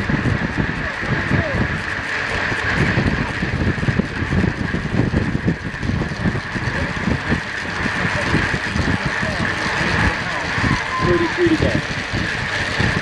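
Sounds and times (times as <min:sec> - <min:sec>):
bike tyres and chain humming: 0:00.0 - 0:13.0
wind buffeting microphone: 0:00.0 - 0:13.0.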